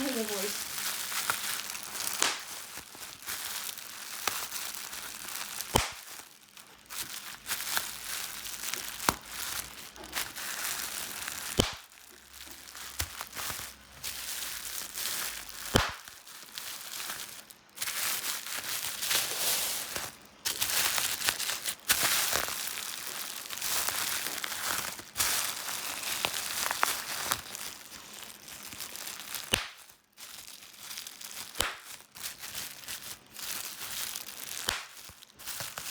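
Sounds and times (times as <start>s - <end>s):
bubble wrap bubbles popping: 0.0s - 35.9s
bubble wrap crinkling: 0.0s - 35.9s.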